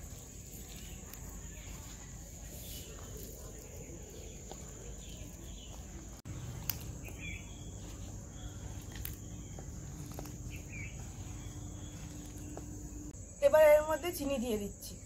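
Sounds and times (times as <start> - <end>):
bird chirps: 0.1 - 13.2.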